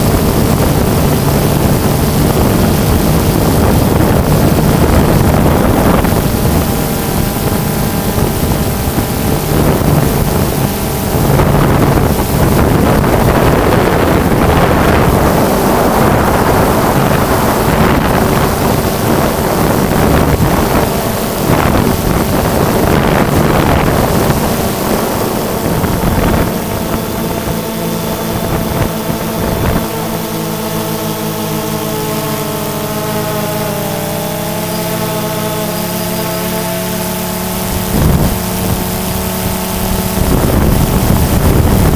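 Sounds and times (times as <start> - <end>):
drone propellers buzzing: 0.0 - 41.9
wind buffeting microphone: 0.0 - 41.9.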